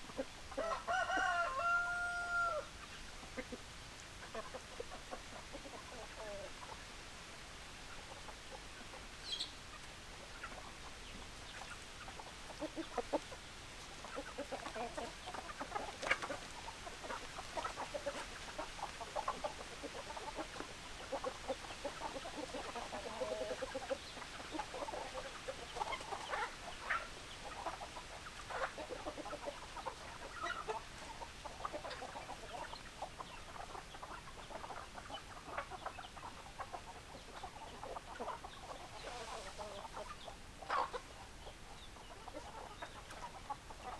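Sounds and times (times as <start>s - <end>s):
hens clucking: 0.0s - 43.9s.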